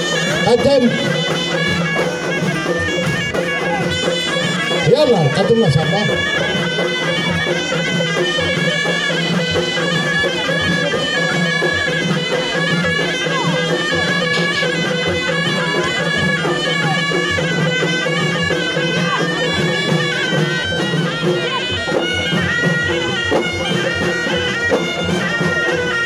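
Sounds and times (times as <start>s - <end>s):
drum beating: 0.0s - 26.0s
reedy shawm folk melody: 0.0s - 26.0s.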